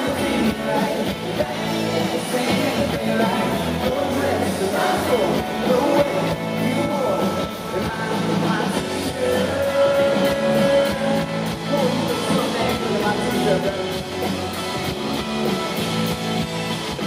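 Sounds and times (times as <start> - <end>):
electric guitar: 0.0 - 17.0
live country-pop band: 0.0 - 17.0.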